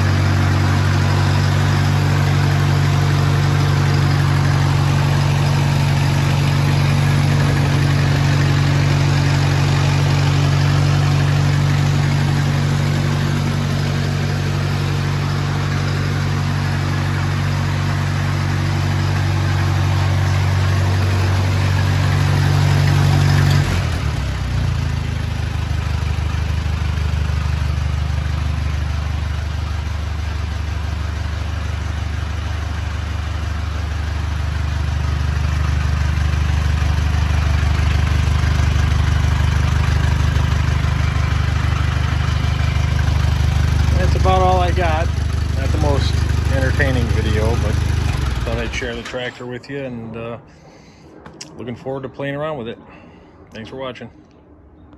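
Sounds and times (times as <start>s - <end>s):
tractor engine running: 0.0s - 50.4s.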